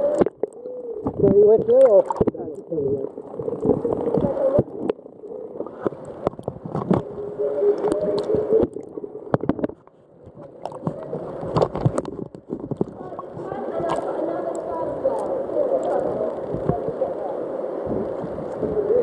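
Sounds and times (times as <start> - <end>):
muffled water sloshing and gurgling: 0.0 - 19.0
water splashes: 0.0 - 19.0.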